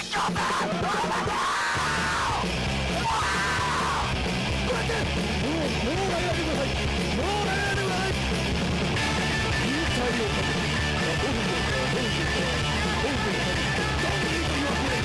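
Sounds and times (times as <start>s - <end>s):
punk rock with shouted vocals: 0.0s - 15.0s.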